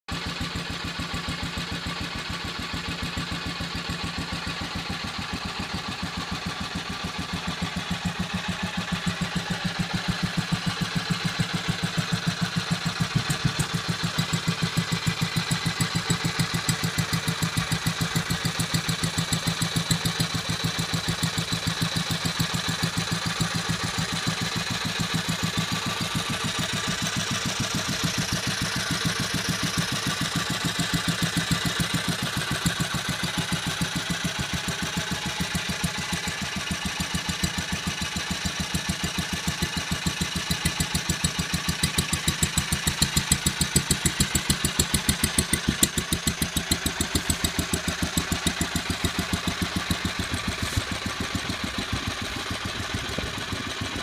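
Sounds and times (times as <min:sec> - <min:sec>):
stationary engine idling: 0:00.1 - 0:54.0.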